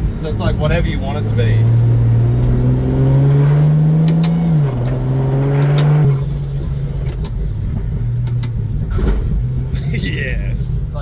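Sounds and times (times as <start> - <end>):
car engine pulling under load: 0.0 - 9.8.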